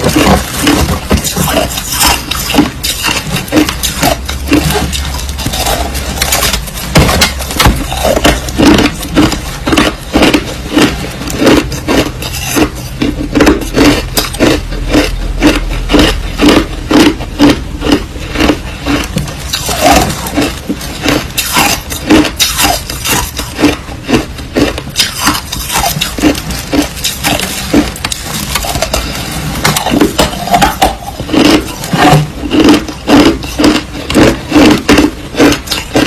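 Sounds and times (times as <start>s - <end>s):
crushed ice being chewed: 0.0s - 36.0s.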